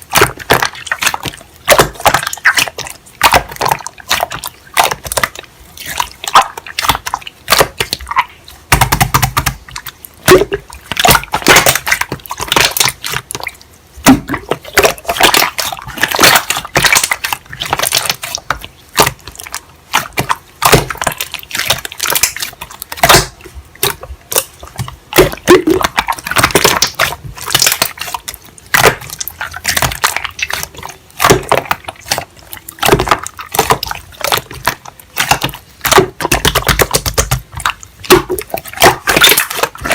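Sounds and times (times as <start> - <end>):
crunching and crackling: 0.0 - 39.9.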